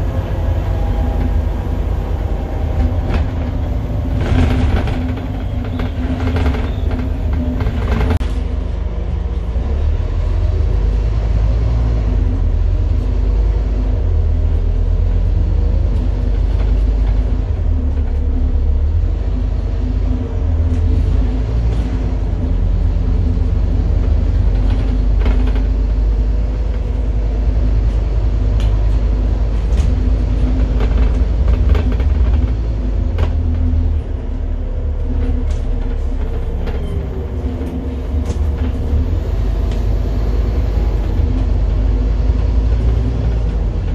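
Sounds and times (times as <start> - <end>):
bus diesel engine rumble: 0.0 - 43.9.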